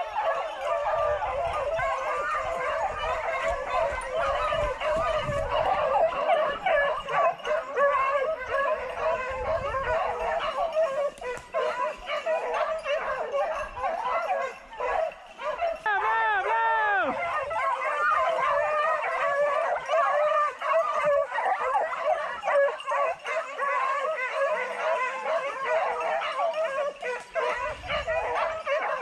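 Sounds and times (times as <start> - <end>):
hounds baying: 0.0 - 29.0.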